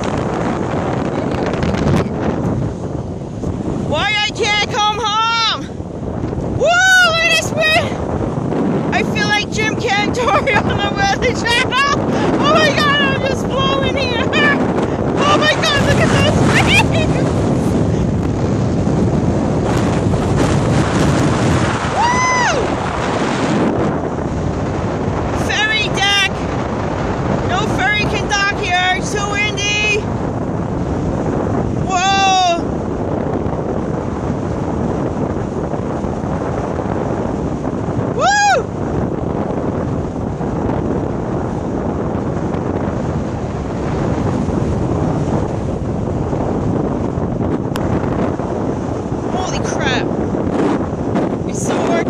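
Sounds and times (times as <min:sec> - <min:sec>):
sea washing against pilings: 0:00.0 - 0:52.0
wind buffeting microphone: 0:00.0 - 0:52.0.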